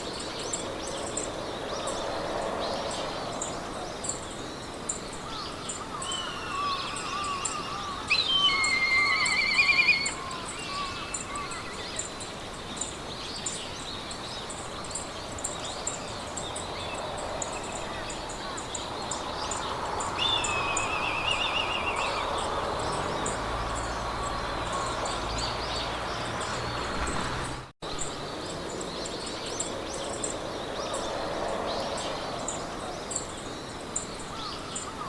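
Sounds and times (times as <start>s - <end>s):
birds singing: 0.0s - 35.0s
trilling birdsong: 0.0s - 35.0s
wind in grass: 0.0s - 35.0s.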